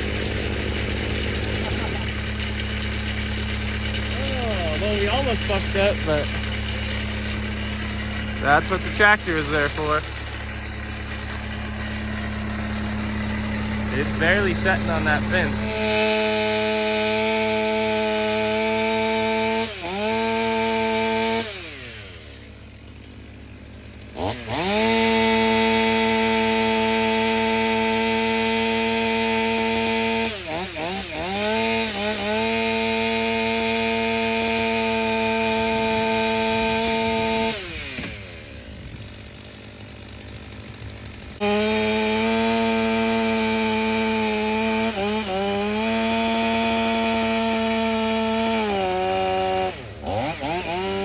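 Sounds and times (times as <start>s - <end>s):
chainsaw running: 0.0s - 51.0s.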